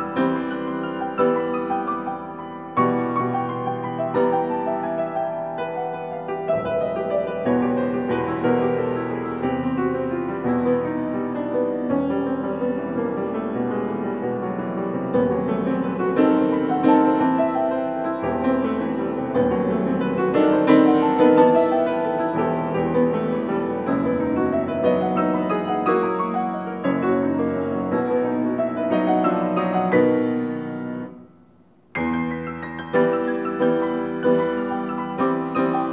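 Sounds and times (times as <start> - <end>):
grand piano fast passage: 0.0 - 35.9.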